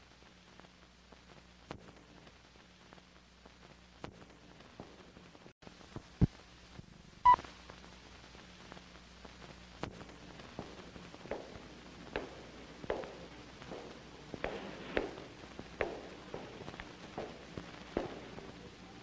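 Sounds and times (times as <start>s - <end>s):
film soundtrack crackle and clicks: 0.0s - 19.0s
low steady hum: 0.0s - 19.0s.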